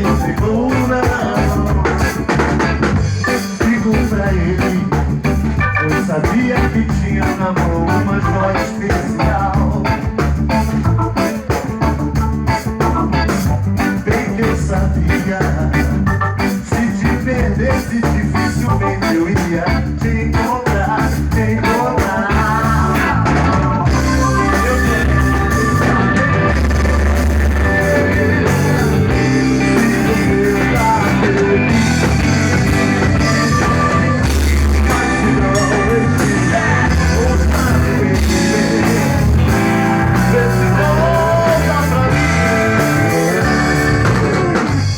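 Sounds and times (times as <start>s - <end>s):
band playing reggae pop song: 0.0s - 44.9s.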